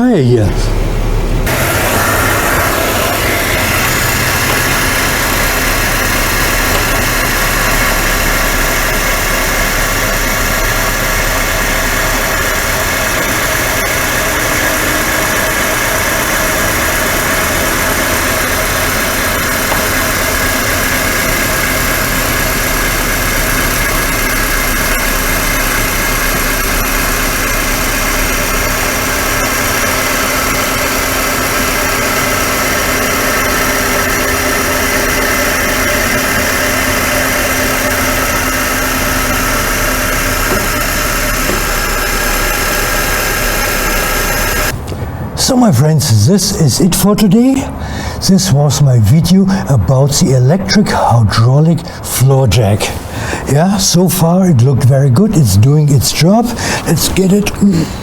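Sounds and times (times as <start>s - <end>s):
motor humming: 0.0s - 45.6s, 49.3s - 58.0s.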